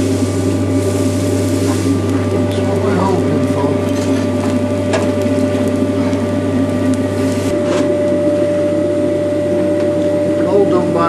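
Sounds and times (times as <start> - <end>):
forge air blower humming: 0.0 - 11.0.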